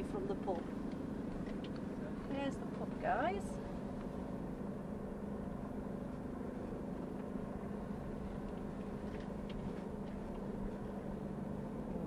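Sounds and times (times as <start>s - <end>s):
van engine low hum: 0.0s - 12.0s.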